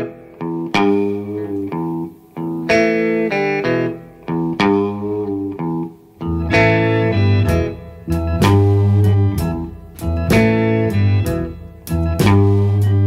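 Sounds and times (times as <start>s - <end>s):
bass: 0.0s - 13.0s
electric guitar chords: 0.0s - 13.0s.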